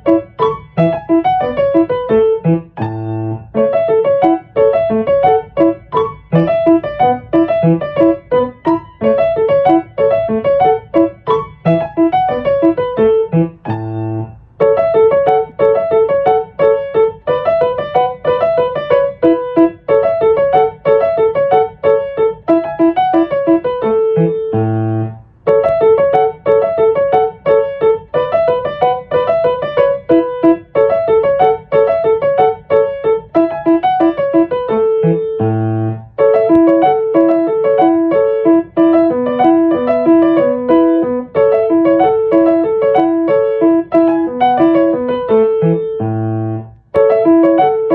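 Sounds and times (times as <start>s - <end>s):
solo piano music: 0.0s - 47.9s.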